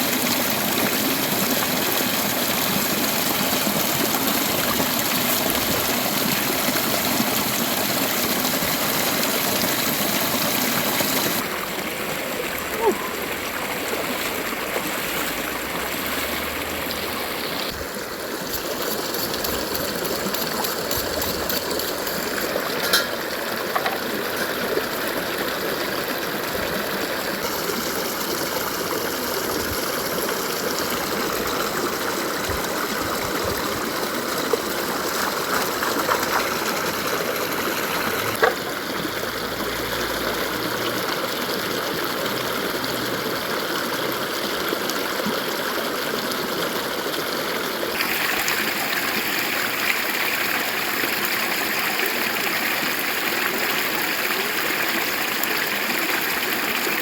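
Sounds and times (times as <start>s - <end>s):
river running: 0.0s - 57.0s.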